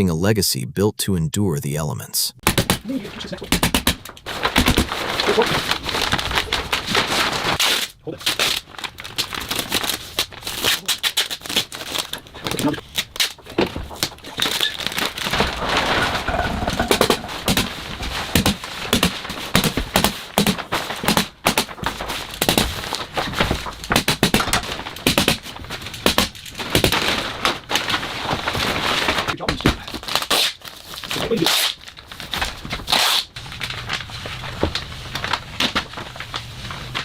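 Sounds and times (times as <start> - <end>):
plastic sheeting crinkling: 2.9 - 37.0.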